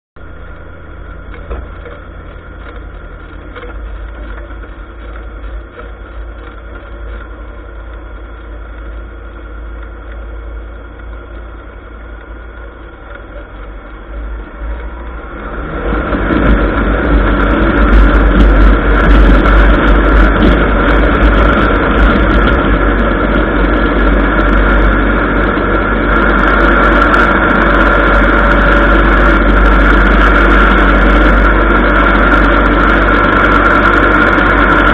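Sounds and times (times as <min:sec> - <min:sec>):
light aircraft engine running: 0:00.2 - 0:34.9.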